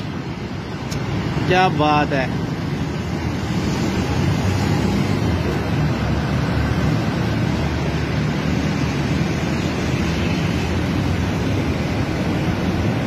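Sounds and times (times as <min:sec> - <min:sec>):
low street traffic: 0:00.0 - 0:13.0.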